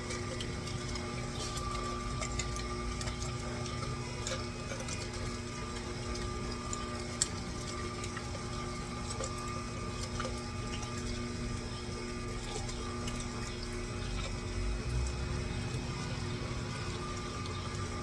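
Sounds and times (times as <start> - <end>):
meat grinder motor hum: 0.0 - 18.0.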